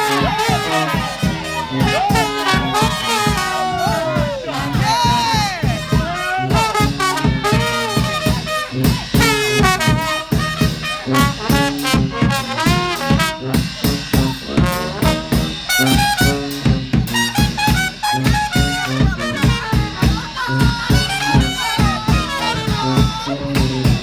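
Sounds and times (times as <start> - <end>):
brass band playing: 0.0 - 24.0.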